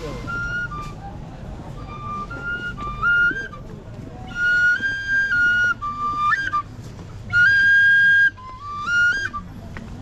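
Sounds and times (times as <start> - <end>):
high-pitched flute tune: 0.0 - 9.7.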